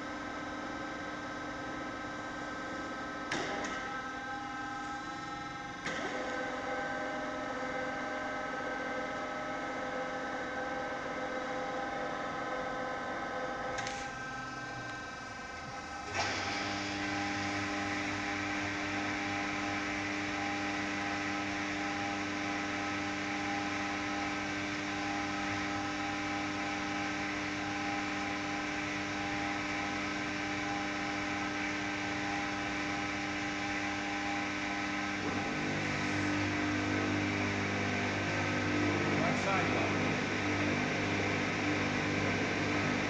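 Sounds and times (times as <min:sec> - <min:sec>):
lathe machine hum and whine: 0:00.0 - 0:43.0.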